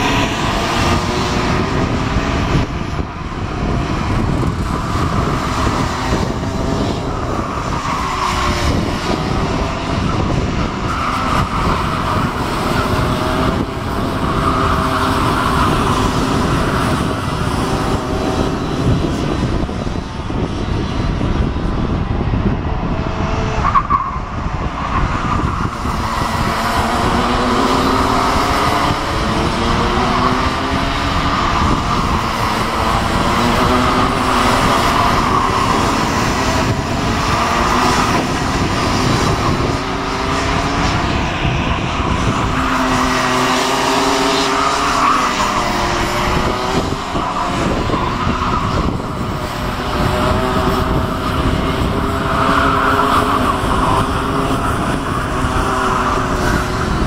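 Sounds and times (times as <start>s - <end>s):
racing kart engines: 0.0s - 57.0s.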